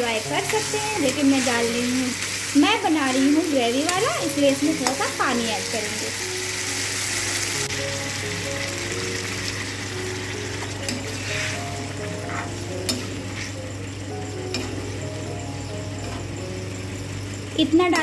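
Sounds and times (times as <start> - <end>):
sauce sizzling in a pan: 0.0 - 18.0.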